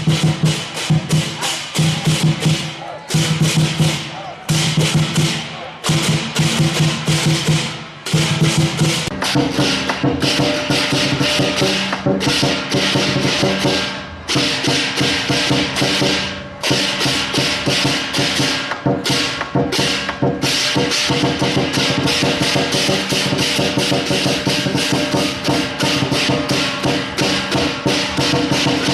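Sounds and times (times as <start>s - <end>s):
cymbals clashing: 0.0s - 28.9s
drum beating: 0.0s - 28.9s.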